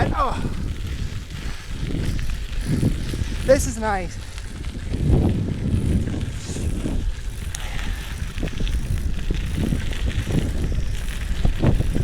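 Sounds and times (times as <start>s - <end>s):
bike clicks and rattles: 0.0s - 12.0s
tyres rumbling on trail: 0.0s - 12.0s
wind buffeting microphone: 0.0s - 12.0s.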